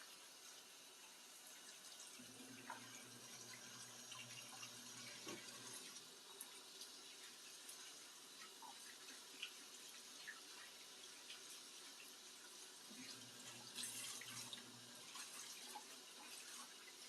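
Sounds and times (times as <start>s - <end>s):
tap water running into sink: 0.2s - 17.0s.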